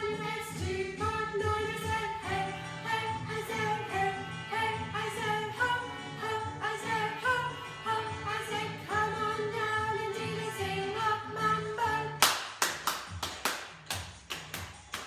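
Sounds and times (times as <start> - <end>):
song with singing: 0.0 - 12.5.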